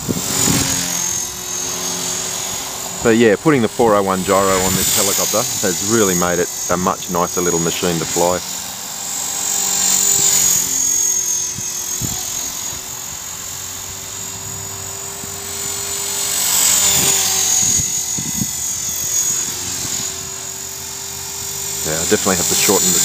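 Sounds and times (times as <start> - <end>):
rc helicopter motor whine: 0.0 - 23.0
rotors humming: 0.0 - 23.0.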